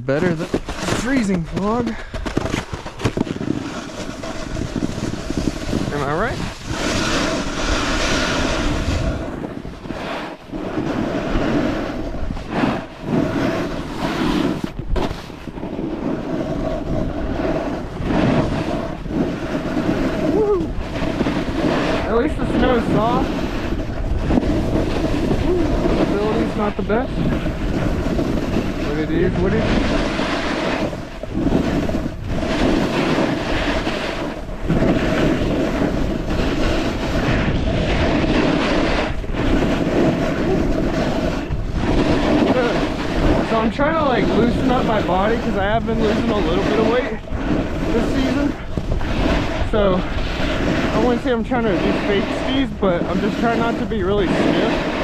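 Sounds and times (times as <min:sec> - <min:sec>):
snowboard scraping over snow: 0:00.0 - 0:55.0
wind buffeting microphone: 0:00.0 - 0:55.0.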